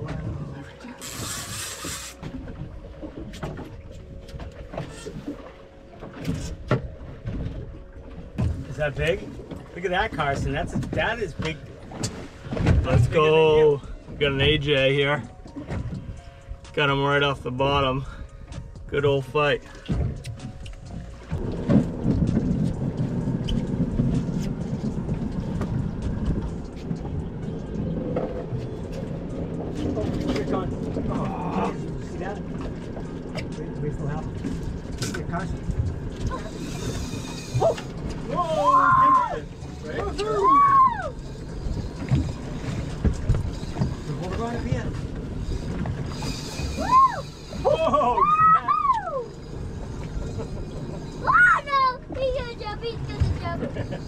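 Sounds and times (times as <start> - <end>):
knocks and clunks on a boat: 0.0 - 54.0
outboard motor running: 0.0 - 54.0
water lapping against hull: 0.0 - 54.0.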